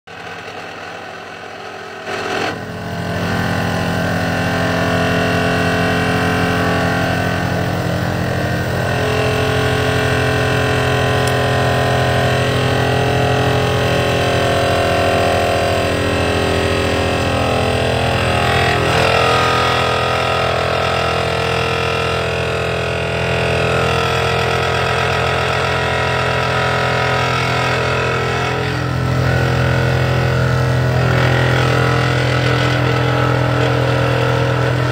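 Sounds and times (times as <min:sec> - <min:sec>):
vibratory pile hammer droning: 0:00.1 - 0:34.9.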